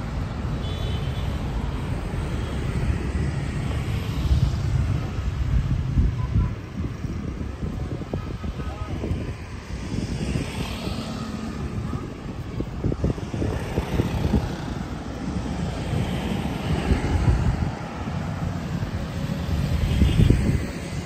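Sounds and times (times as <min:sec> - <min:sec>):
road traffic engine drone: 0:00.0 - 0:21.0
wind buffeting microphone: 0:02.9 - 0:21.0.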